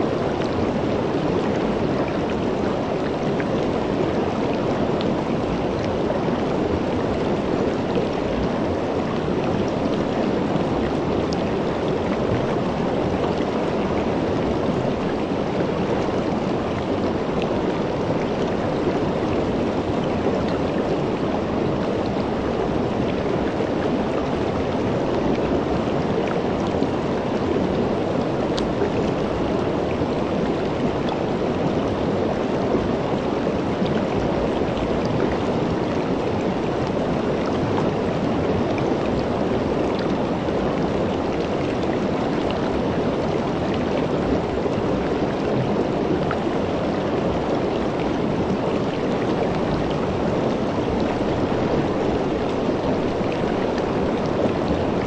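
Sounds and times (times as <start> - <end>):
water flowing over rocks: 0.0 - 55.0.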